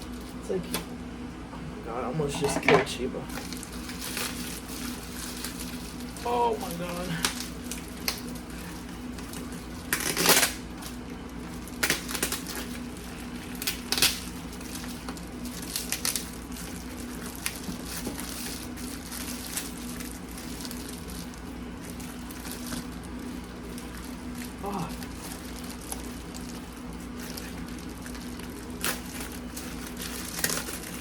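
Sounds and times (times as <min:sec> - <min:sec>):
steady low hum: 0:00.0 - 0:31.0
packaging being torn open: 0:03.3 - 0:08.6, 0:09.2 - 0:31.0.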